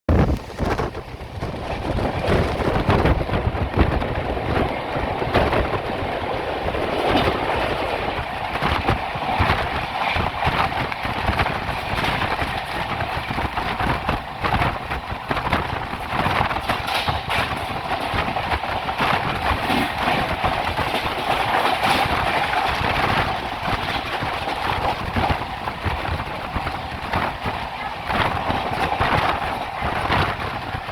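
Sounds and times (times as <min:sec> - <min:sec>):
train wheels rumbling on rails: 0:00.1 - 0:30.9
rapid rail clicks and knocks: 0:00.2 - 0:30.9.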